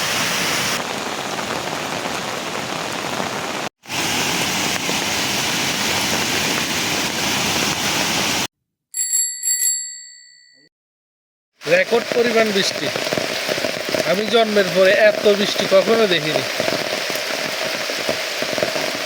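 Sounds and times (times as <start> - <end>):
heavy rain falling: 0.0 - 8.5, 11.6 - 19.0.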